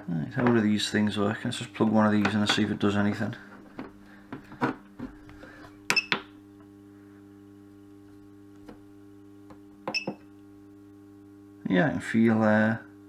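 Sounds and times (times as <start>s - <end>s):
steady mains hum: 0.0s - 13.0s.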